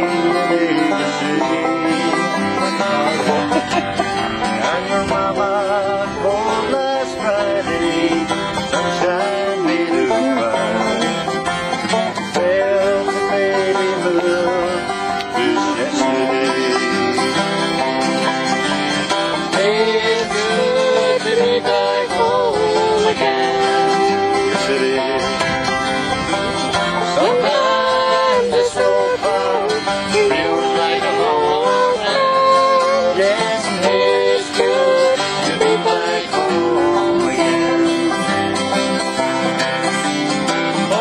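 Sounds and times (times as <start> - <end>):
man singing: 0.0 - 11.6, 12.2 - 17.5, 19.4 - 25.6, 27.0 - 38.6, 40.8 - 41.0
acoustic guitar strumming: 0.0 - 41.0.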